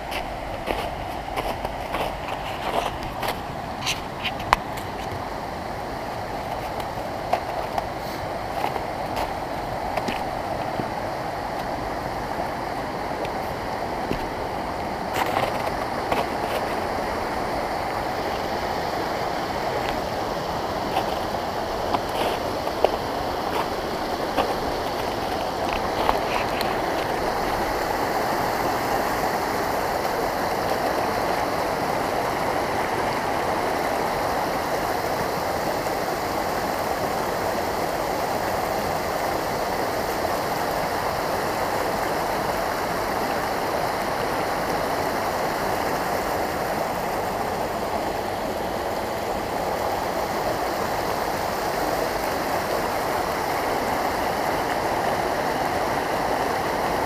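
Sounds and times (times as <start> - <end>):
stream rushing over stones: 0.0 - 57.0.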